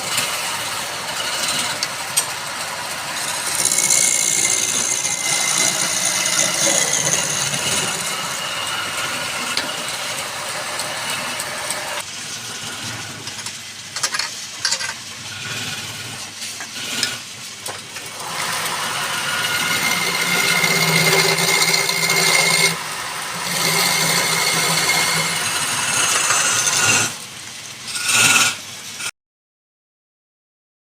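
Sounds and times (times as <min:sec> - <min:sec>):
woodworking machine rattling: 0:00.0 - 0:27.2, 0:27.9 - 0:29.1.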